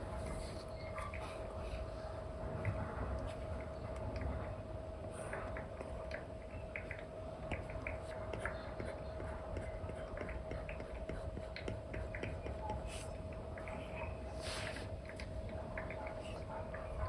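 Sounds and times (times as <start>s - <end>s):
faint constant tone: 0.0s - 17.0s
steady low hum: 0.0s - 17.0s.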